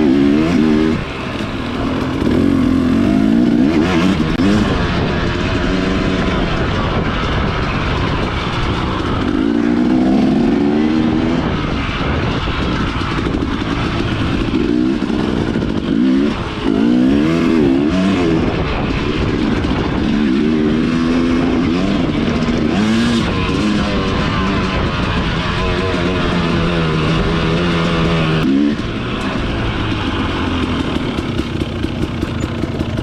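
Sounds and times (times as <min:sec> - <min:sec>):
dirt bike engines revving: 0:00.0 - 0:33.0
steady rushing noise: 0:00.0 - 0:33.0.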